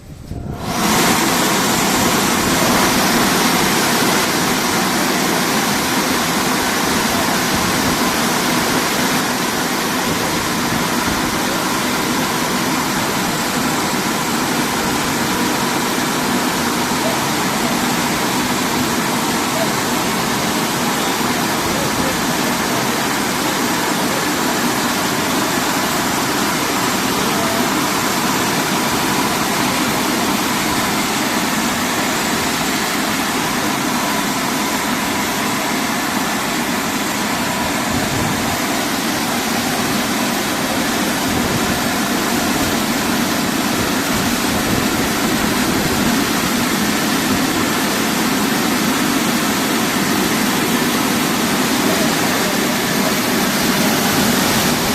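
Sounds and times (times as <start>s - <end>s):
car wash machine rushing: 0.0s - 54.9s.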